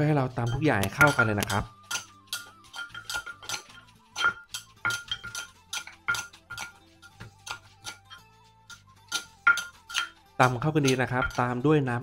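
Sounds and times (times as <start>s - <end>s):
metal spoon clinking: 0.4s - 11.6s
wooden pestle pounding in mortar: 0.4s - 11.6s.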